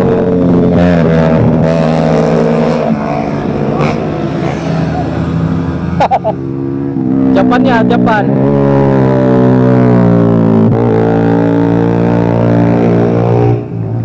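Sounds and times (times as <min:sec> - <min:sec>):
motorcycles passing at speed: 0:00.0 - 0:14.0.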